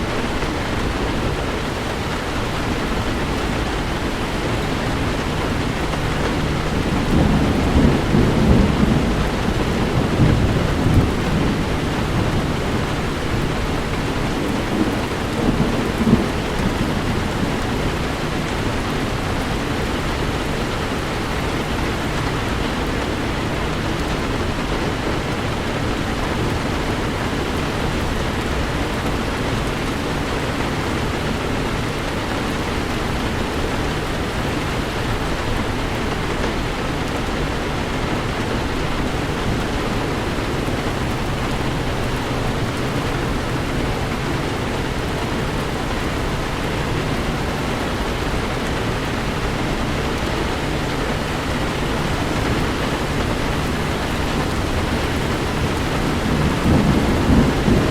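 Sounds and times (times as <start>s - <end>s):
heavy rain falling: 0.0s - 57.9s
thunder rumbling: 0.0s - 57.9s.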